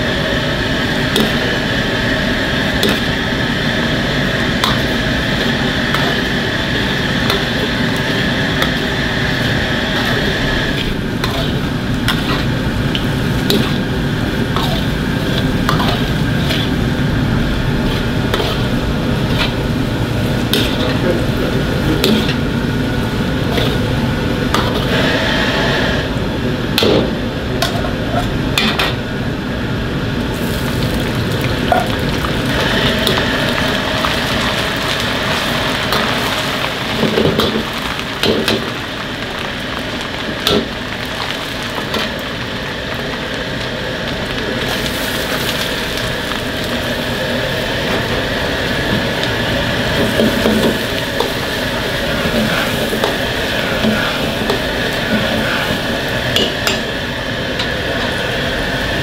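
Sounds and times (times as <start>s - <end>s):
meat sizzling in oil: 0.0s - 26.2s, 27.0s - 59.0s.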